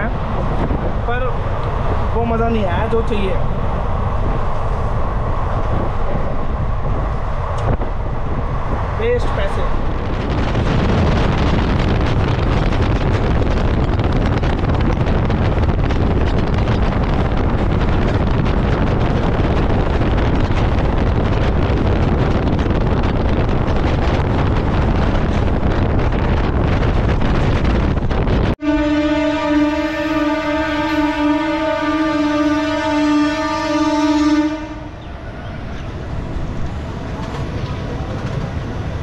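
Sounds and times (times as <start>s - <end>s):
moving train rumble: 0.0s - 39.0s
wind buffeting microphone: 0.0s - 39.0s.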